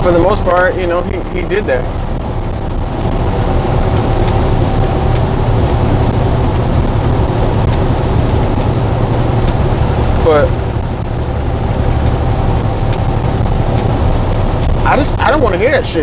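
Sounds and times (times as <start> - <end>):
truck cab road and engine noise: 0.0 - 16.0.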